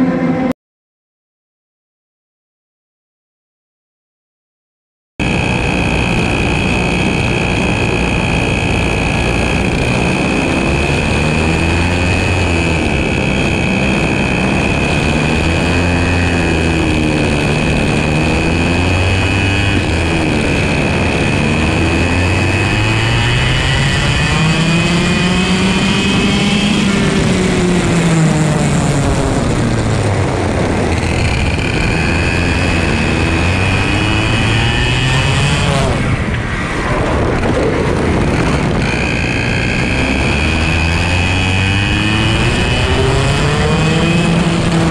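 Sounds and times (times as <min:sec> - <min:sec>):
kart engine revving: 0:05.2 - 0:44.9
steady high whine: 0:05.2 - 0:44.9.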